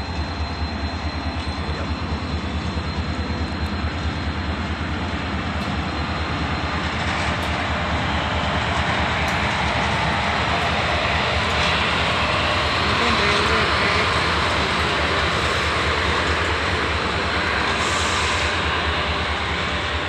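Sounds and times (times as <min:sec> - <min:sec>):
electric locomotive passing: 0:00.0 - 0:20.0.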